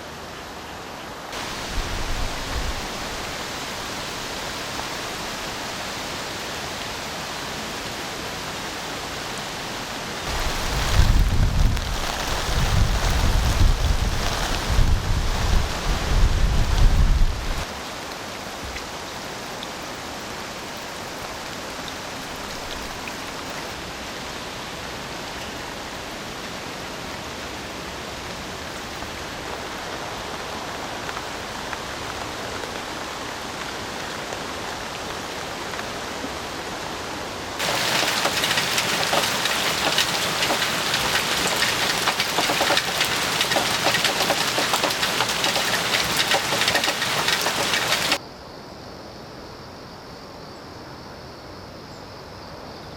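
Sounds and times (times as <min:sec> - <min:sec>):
heavy rain falling: 0:00.0 - 0:48.2
raindrops hitting a surface: 0:01.2 - 0:48.2.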